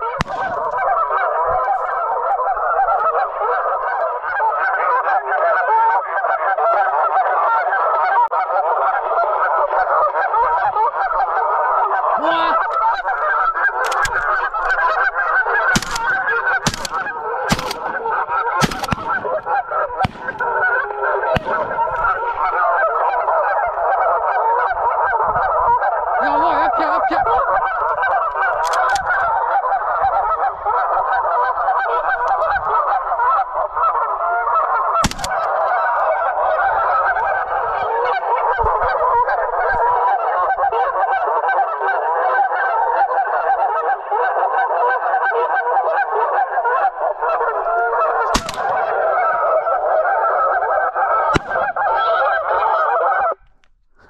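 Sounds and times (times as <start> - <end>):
geese honking: 0.0 - 53.7.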